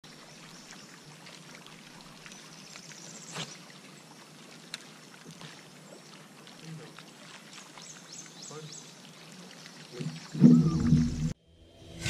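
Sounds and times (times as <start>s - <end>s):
faint water trickle: 0.0s - 11.4s.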